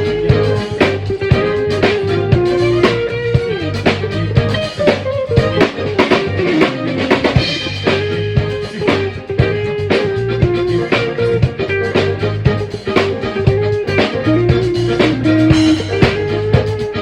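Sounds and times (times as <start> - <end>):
bass line: 0.0 - 17.0
drum kit beat: 0.0 - 17.0
rock band playing: 0.0 - 17.0
sliding melody line: 0.0 - 17.0.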